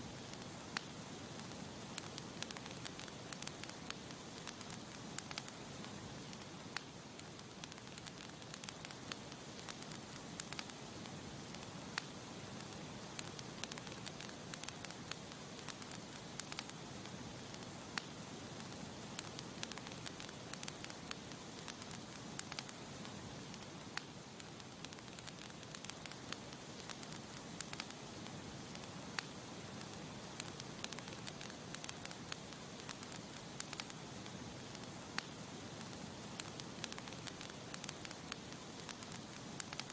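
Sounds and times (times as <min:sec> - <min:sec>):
campfire crackling and popping: 0:00.0 - 0:39.9
soft hiss: 0:00.0 - 0:39.9.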